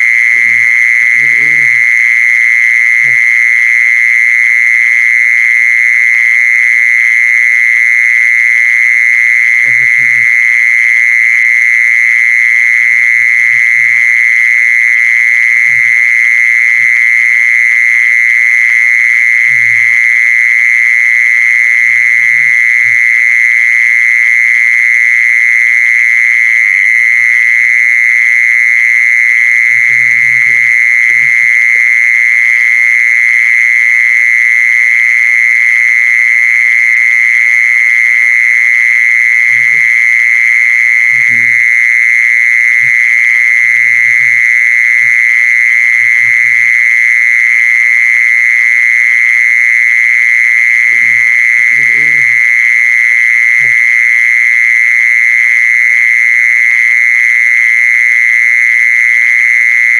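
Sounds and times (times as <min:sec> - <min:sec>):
mole cricket trilling: 0:00.0 - 0:59.9.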